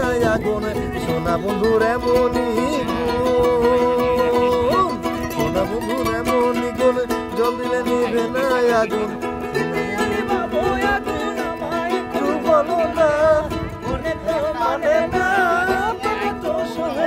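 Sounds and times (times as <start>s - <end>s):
ukulele plucked and strummed: 0.0s - 17.0s.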